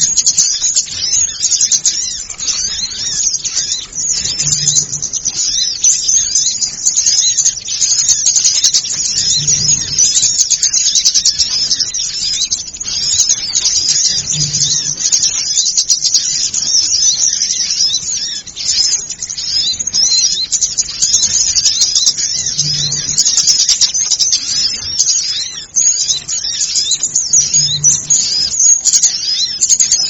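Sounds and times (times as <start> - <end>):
small birds chirping chorus: 0.0 - 30.0.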